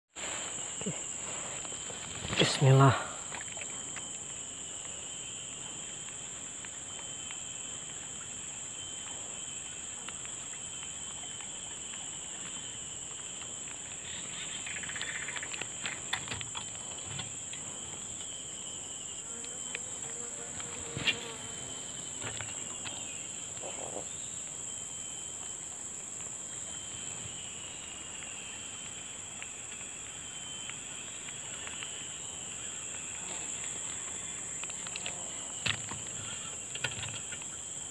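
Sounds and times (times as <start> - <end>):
insects droning: 0.1 - 37.9.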